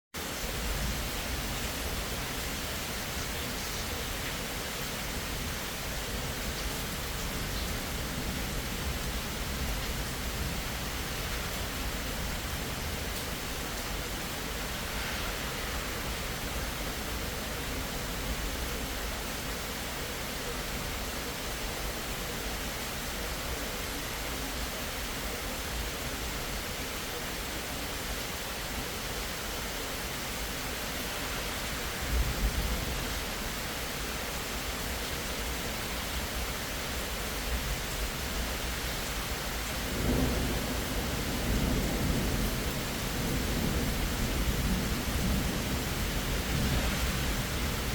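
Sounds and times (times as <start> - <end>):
heavy rain falling: 0.2 - 47.9.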